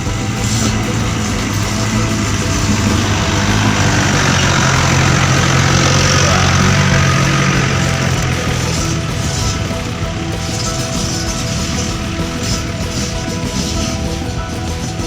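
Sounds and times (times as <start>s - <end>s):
constant hiss: 0.0s - 15.0s
jeep engine running: 0.0s - 15.0s.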